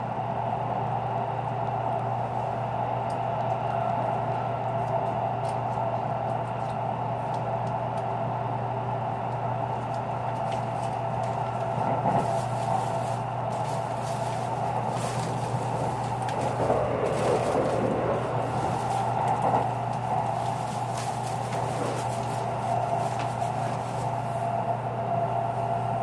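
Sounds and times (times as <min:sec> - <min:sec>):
train running rumble and hum: 0:00.0 - 0:26.0.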